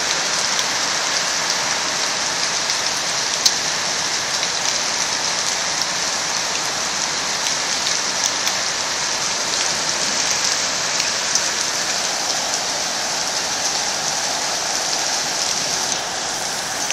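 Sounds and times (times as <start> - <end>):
heavy hail falling: 0.0 - 16.9.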